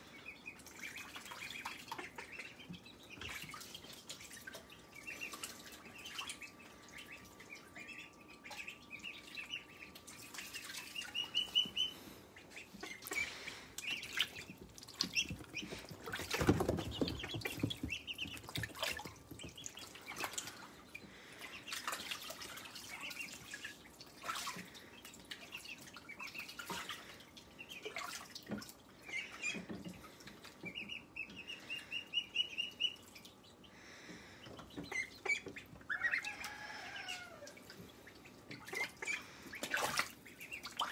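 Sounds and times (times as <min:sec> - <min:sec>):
ducklings peeping: 0:00.0 - 0:40.9
water splashing and dripping: 0:00.5 - 0:30.9, 0:34.4 - 0:40.9.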